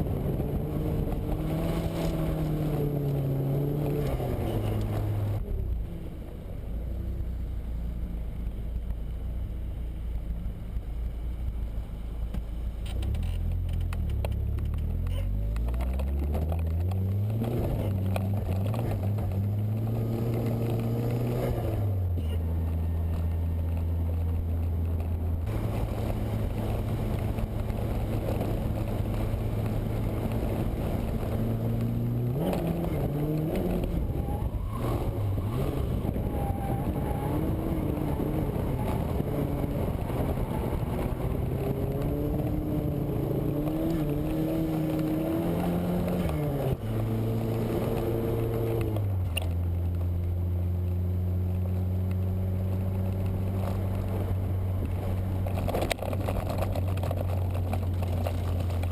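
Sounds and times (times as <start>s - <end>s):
car engine revving: 0.0s - 5.9s, 12.9s - 58.9s.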